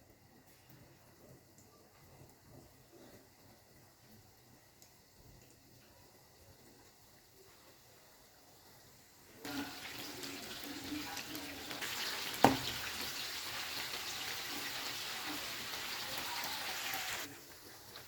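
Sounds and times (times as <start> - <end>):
oil sizzling: 0.0 - 18.0.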